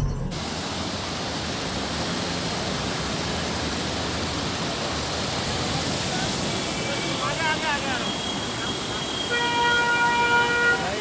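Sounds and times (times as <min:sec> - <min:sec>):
river rushing over boulders: 0:00.3 - 0:10.2.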